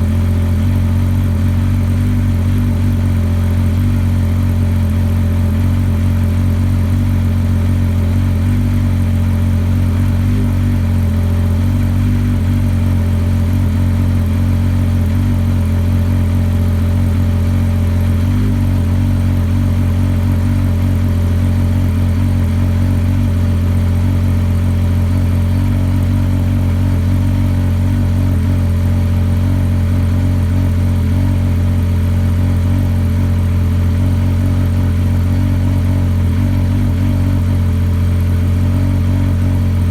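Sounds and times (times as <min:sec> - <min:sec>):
snowmobile engine idling: 0:00.0 - 0:39.9.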